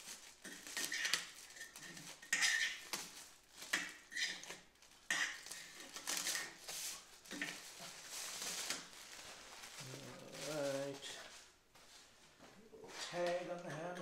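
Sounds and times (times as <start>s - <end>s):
plastic film peeling and crinkling: 0.0s - 11.6s.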